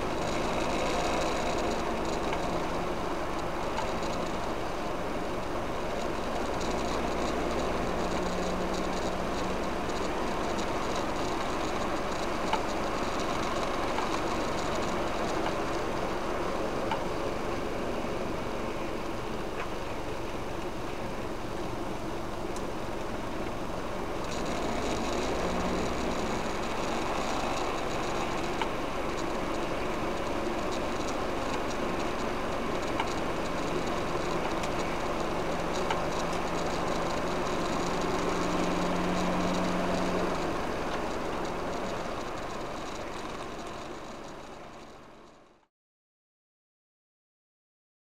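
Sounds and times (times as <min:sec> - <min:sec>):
car cabin road and engine noise: 0:00.0 - 0:45.6.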